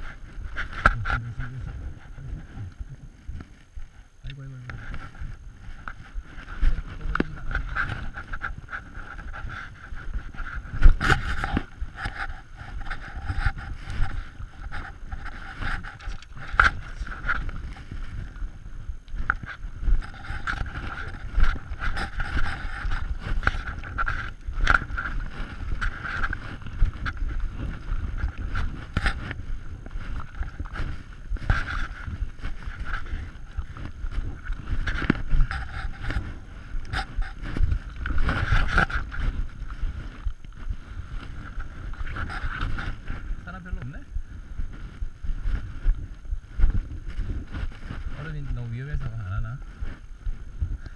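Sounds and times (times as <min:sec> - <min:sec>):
branches scraping against jacket: 0:00.0 - 0:50.9
footsteps crunching in snow: 0:00.0 - 0:50.9
microphone handling noise: 0:00.0 - 0:50.9
wind rumble: 0:00.0 - 0:50.9.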